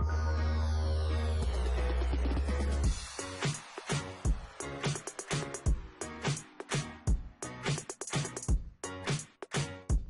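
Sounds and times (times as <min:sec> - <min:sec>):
music with electronic drum beat: 0:01.4 - 0:10.0.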